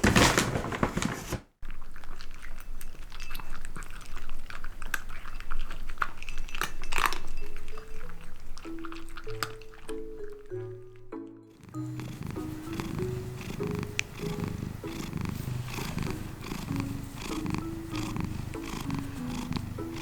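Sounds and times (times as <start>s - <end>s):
cat crunching food: 1.6s - 10.6s, 11.5s - 20.0s.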